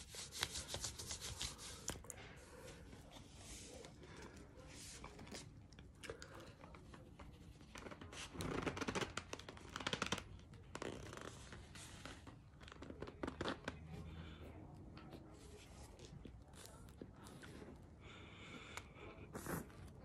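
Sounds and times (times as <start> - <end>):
crackly scratching of eating cornstarch: 0.0 - 20.0.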